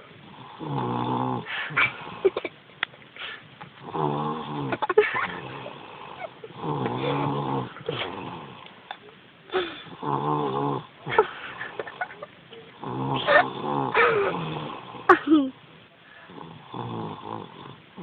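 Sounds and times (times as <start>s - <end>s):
child snoring: 0.1s - 2.4s, 3.2s - 8.7s, 9.5s - 12.2s, 12.8s - 15.5s, 16.2s - 18.0s.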